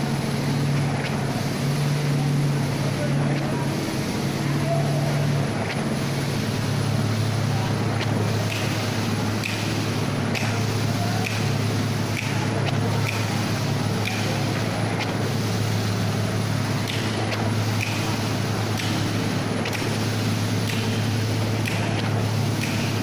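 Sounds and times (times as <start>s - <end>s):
small petrol engines running: 0.0s - 23.0s.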